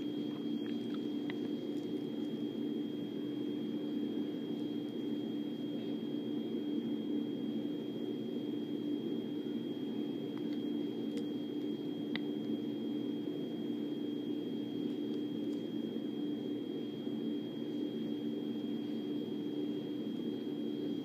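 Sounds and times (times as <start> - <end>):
high whine: 0.0 - 21.0
low hum: 0.0 - 21.0.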